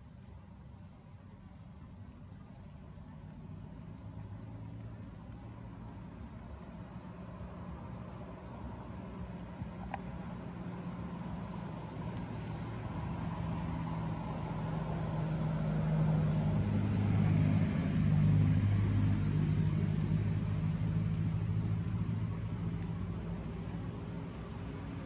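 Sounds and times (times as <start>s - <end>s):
vehicle engine humming: 0.8s - 25.0s.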